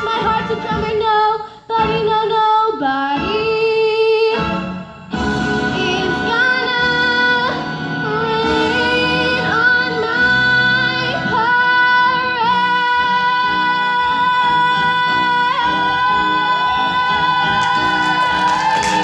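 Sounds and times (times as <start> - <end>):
musical accompaniment: 0.0 - 19.0
woman singing: 0.0 - 19.0.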